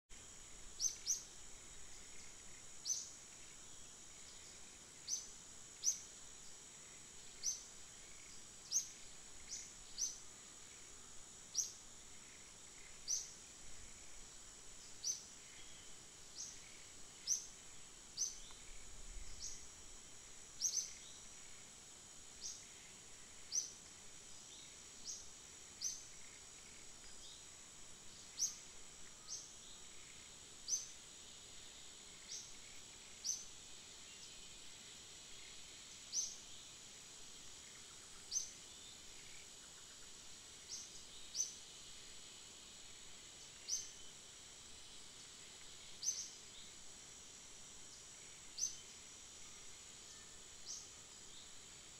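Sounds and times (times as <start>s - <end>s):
high-pitched insect drone: 0.2s - 51.9s.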